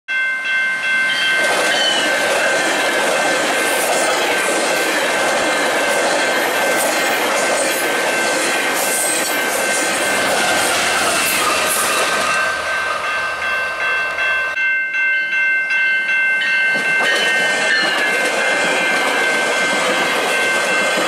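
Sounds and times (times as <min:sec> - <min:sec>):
diesel locomotive passing: 0:00.1 - 0:15.4, 0:16.1 - 0:21.0
train wheels rumbling on rails: 0:01.0 - 0:14.6, 0:16.6 - 0:21.0.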